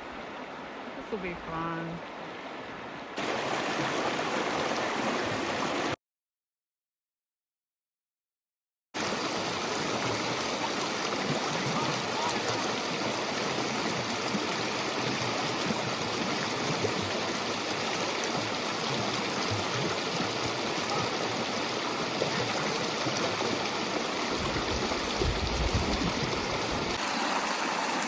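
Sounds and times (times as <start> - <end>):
water rushing through rapids: 0.0 - 6.0, 9.0 - 28.0.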